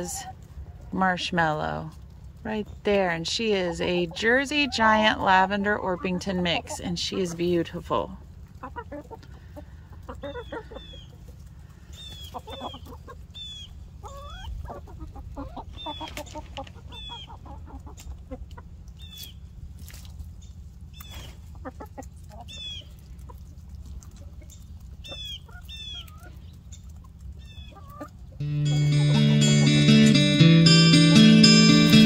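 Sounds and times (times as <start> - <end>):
hens clucking and calling: 0.0 - 19.3, 20.5 - 32.0.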